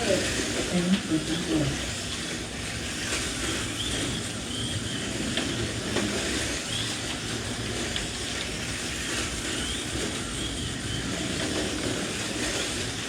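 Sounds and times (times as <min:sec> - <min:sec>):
slot car electric motors whining: 0:00.0 - 0:13.0.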